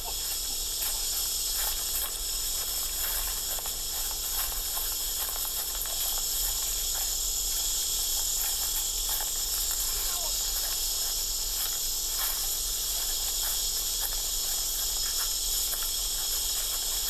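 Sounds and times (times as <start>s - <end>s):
insects droning: 0.0s - 17.0s
people running through brush: 0.0s - 17.0s.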